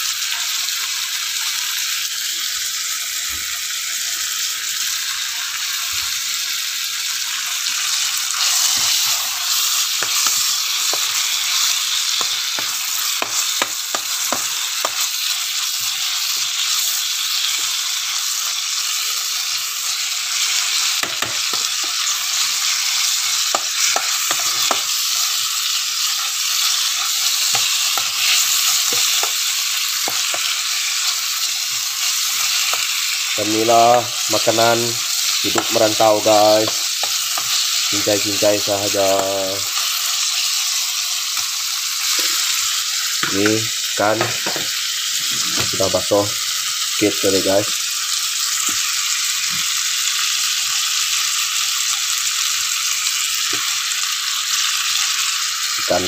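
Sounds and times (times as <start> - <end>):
oil sizzling: 0.0 - 56.0.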